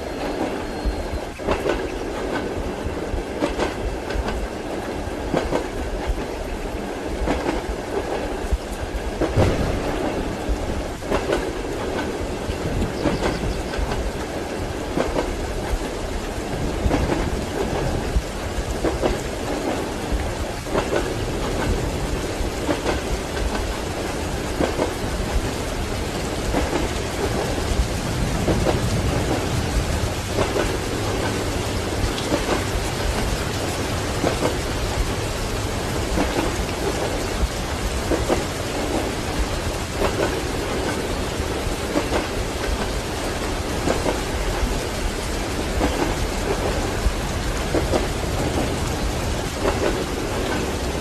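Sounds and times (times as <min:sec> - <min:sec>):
train wheels knocking on rail joints: 0:00.2 - 0:06.4, 0:07.0 - 0:51.0
rain hissing: 0:06.7 - 0:51.0
thunder rumbling: 0:07.1 - 0:51.0.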